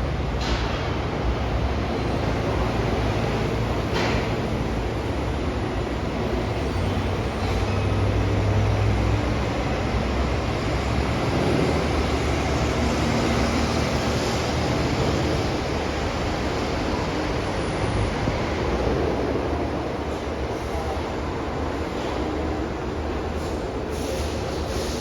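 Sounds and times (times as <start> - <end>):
monorail train rumbling: 0.0 - 25.0.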